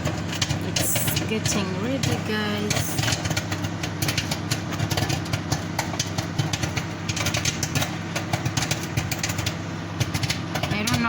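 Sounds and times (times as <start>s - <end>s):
microwave oven hum: 0.0s - 11.0s
popcorn popping: 0.0s - 11.0s.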